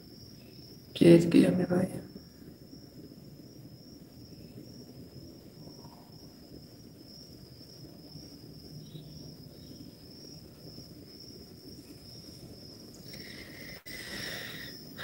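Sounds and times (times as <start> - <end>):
faint cricket chorus: 0.0 - 15.0.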